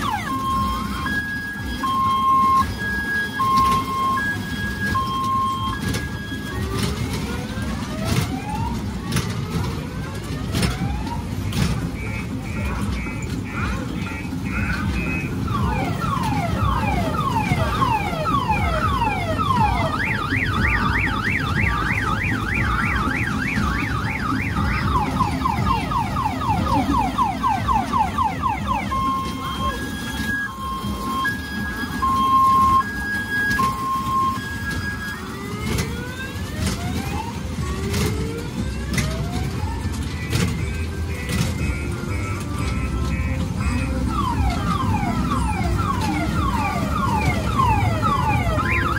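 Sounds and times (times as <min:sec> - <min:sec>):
electronic siren through loudspeaker: 0:00.0 - 0:48.9.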